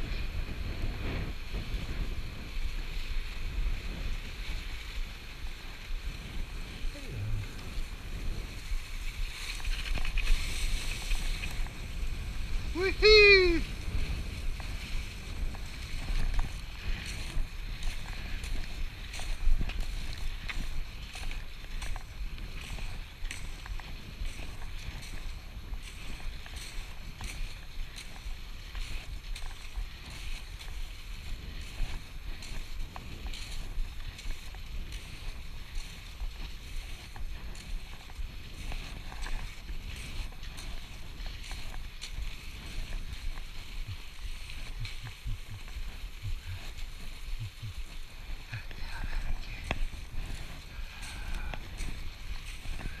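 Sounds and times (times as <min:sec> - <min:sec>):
skis swishing over snow: 0:00.0 - 0:53.0
wind rumble on microphone: 0:00.0 - 0:53.0.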